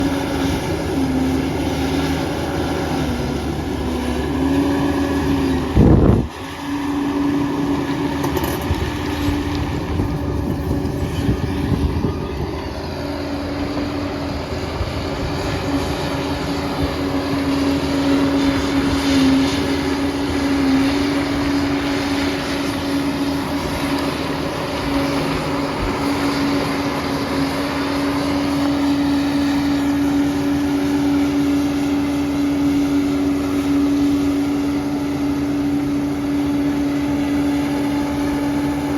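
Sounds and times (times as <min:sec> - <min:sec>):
crawler dozer engine hum: 0:00.0 - 0:38.9.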